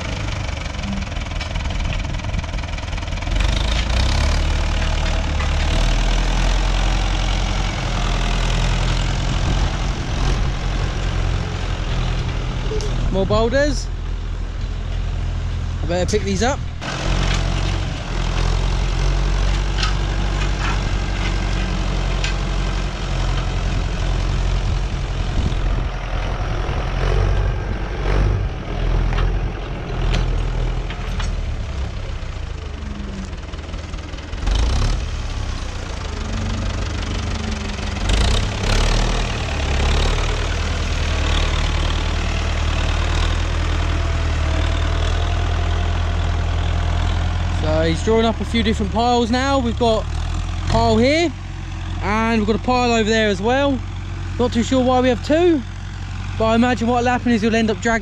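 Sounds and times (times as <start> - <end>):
tractor engine rumbling: 0.0 - 58.0.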